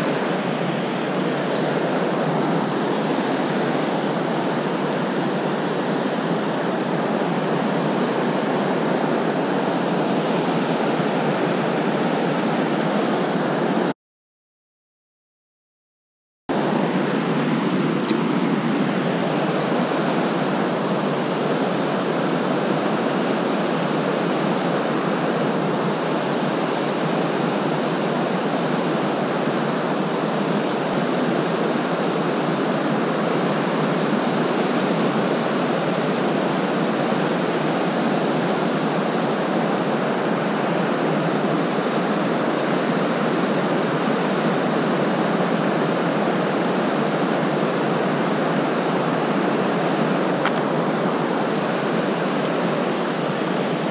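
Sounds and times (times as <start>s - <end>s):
river water rushing over rocks: 0.0s - 13.9s, 16.6s - 53.9s.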